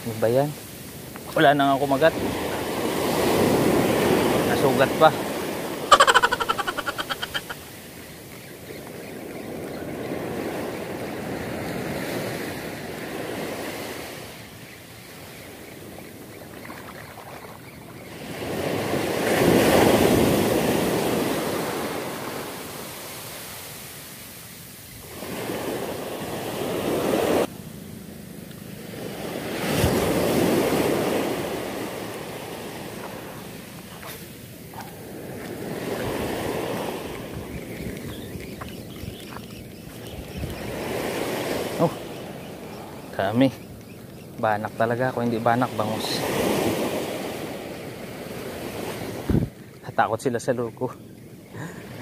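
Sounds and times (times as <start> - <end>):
surf washing up a beach: 0.0 - 27.7, 28.5 - 52.0.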